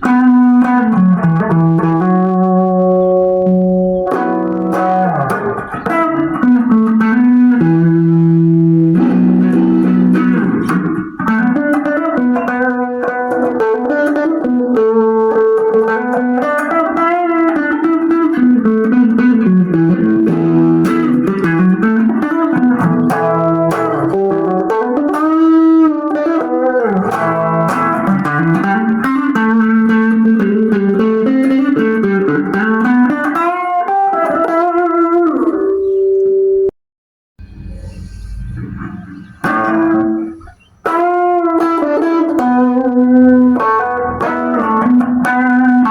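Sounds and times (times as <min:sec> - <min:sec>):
electric guitar lead line: 0:00.0 - 0:36.7, 0:37.4 - 0:45.9.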